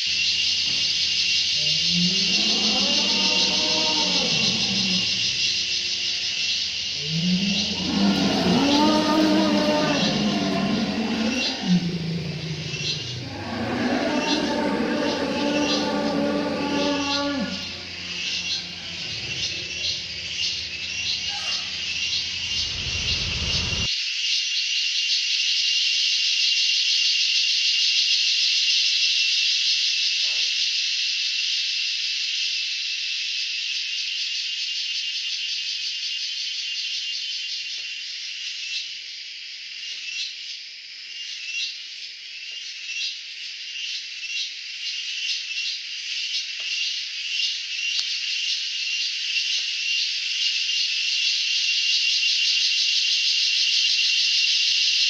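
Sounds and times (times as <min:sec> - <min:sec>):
insect chorus droning: 0:00.0 - 0:55.0.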